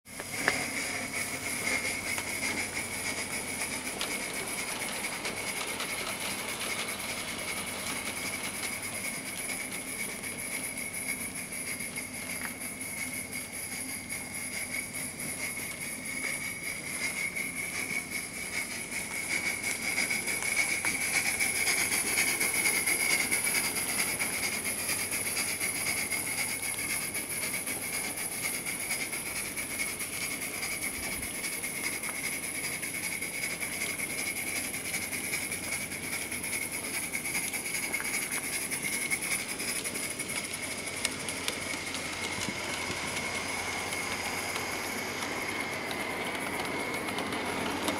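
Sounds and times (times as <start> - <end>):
steam locomotive rolling: 0.1 - 47.9.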